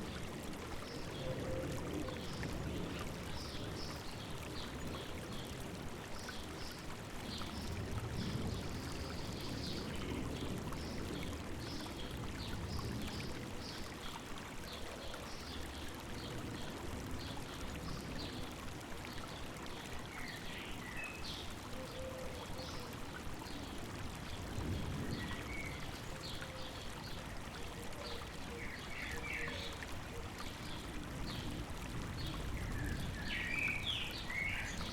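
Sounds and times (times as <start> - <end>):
river water running: 0.0 - 34.9.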